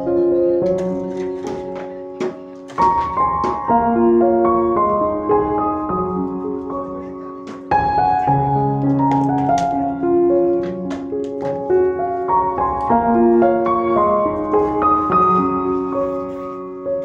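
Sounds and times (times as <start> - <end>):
keyboard instrumental music: 0.0 - 17.0.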